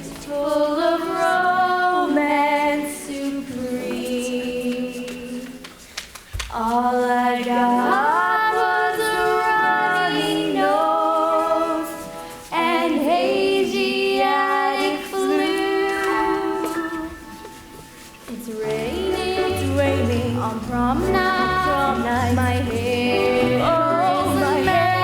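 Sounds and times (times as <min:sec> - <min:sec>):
woman singing slow song: 0:00.0 - 0:05.7, 0:06.5 - 0:17.4, 0:18.2 - 0:25.0.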